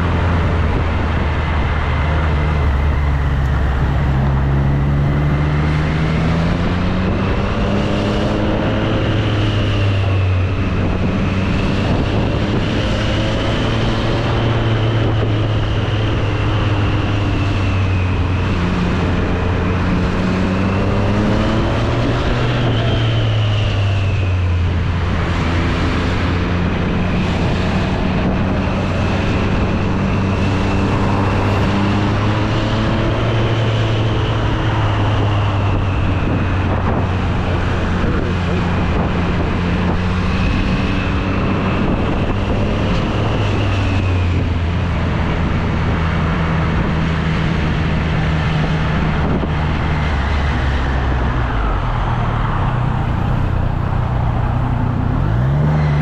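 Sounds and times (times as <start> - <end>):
motorcycle engine accelerating: 0.0 - 56.0
steady rush of noise: 0.0 - 56.0.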